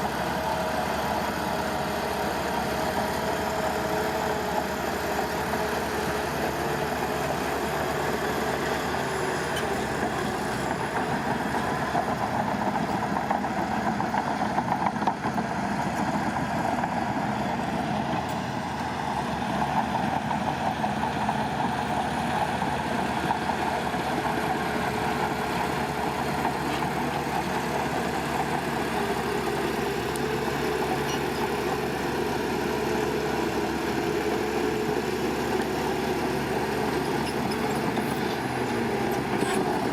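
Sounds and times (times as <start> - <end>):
construction machinery engine drone: 0.0 - 39.9.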